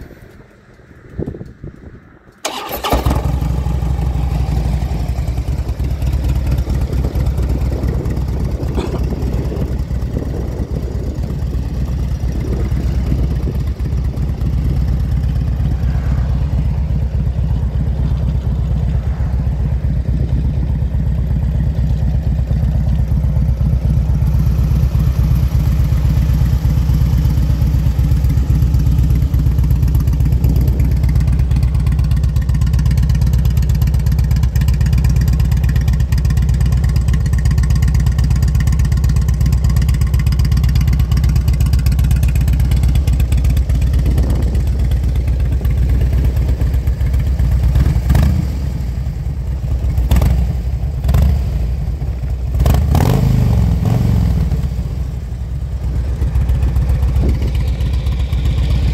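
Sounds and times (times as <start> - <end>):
motorcycle engine idling: 2.4 - 58.9.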